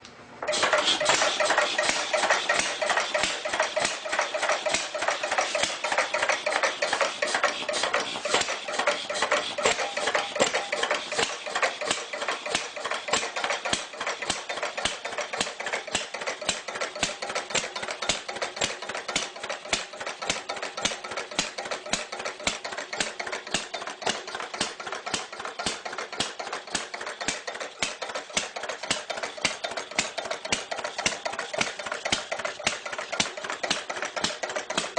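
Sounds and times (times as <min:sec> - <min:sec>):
old engine knocking: 0:00.5 - 0:34.9.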